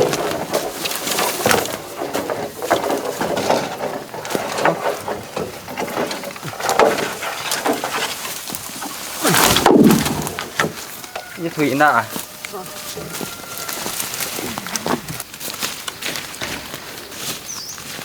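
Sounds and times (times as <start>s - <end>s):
bamboo poles knocking together: 0.0s - 16.8s.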